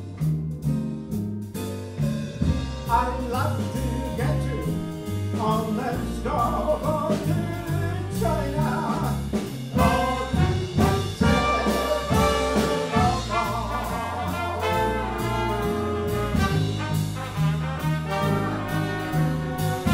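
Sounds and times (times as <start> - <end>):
jazz rhythm section: 0.0 - 19.9
brass section playing jazz: 2.8 - 19.9.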